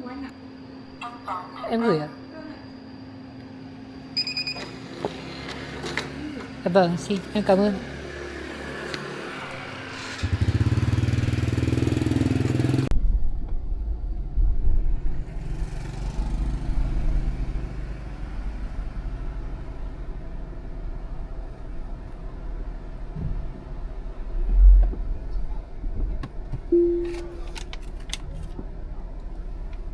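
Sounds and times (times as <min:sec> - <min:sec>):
low mechanical hum with buzz: 0:00.0 - 0:29.9
vehicle and road noise rumble: 0:04.8 - 0:29.9.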